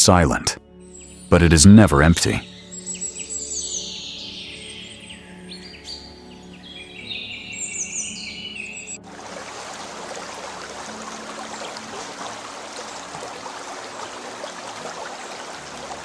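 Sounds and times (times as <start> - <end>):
birds chirping and calling: 2.4 - 16.0.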